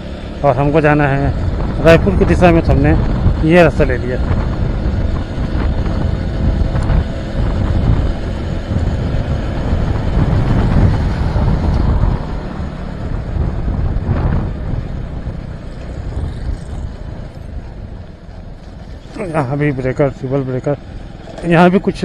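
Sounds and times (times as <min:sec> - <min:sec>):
motorcycle engine: 0:00.0 - 0:22.0
road noise: 0:00.0 - 0:22.0
wind rushing over microphone: 0:00.0 - 0:22.0.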